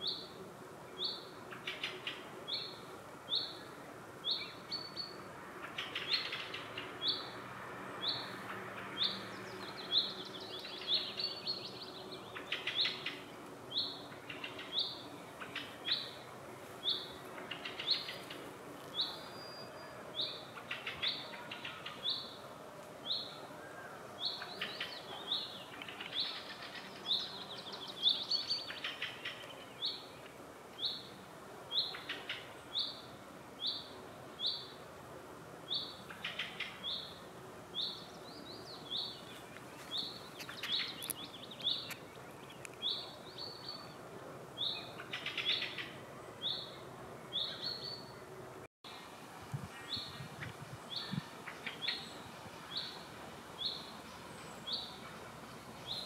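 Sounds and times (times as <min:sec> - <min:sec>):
birds trilling and twittering: 0:00.0 - 0:34.8, 0:35.7 - 0:48.5, 0:49.6 - 0:56.0.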